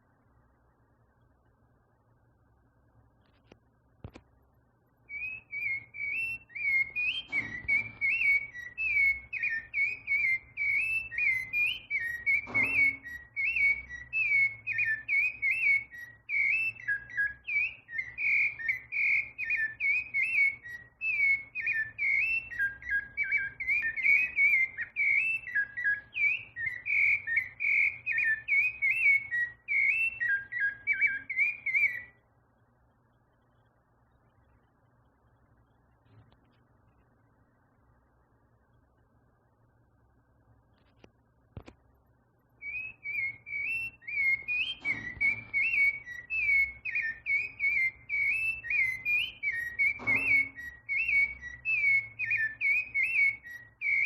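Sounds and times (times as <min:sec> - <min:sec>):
songbird singing: 0:03.4 - 0:37.7, 0:42.6 - 0:54.0.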